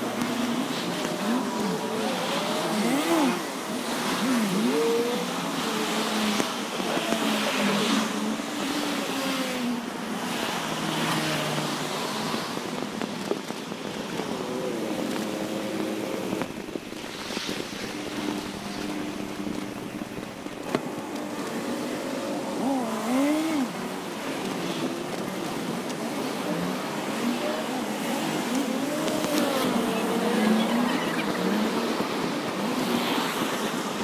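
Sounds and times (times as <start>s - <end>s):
busy road traffic: 0.0s - 34.0s.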